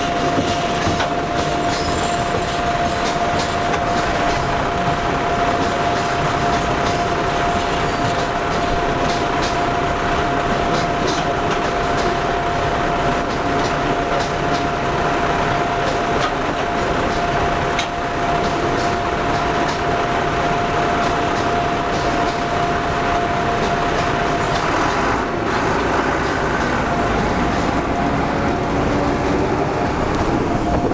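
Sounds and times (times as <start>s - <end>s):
train wheel clicks: 0.0s - 30.9s
train wheels rumbling on rails: 0.0s - 30.9s.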